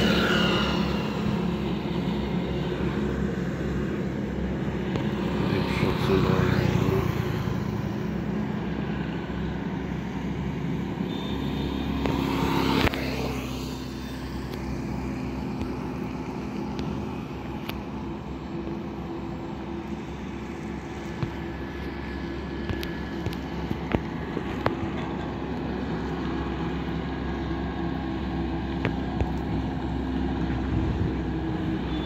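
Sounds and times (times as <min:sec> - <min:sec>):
highway traffic hum: 0:00.0 - 0:32.0.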